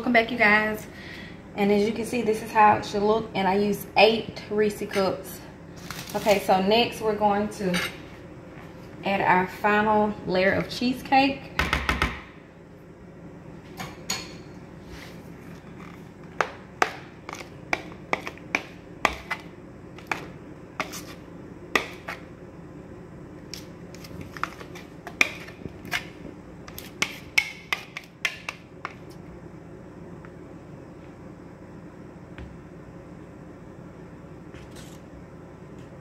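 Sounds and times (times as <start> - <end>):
faint hum: 0.0 - 36.0.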